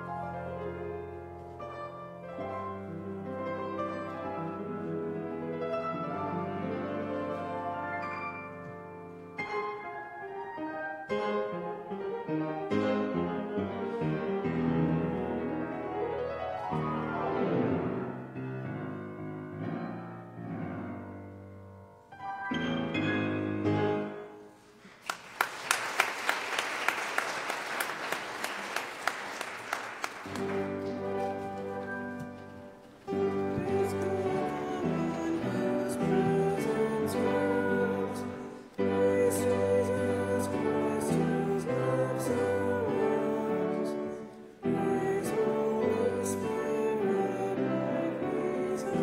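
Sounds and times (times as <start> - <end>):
grand piano playing: 0.0 - 24.8, 25.7 - 49.0.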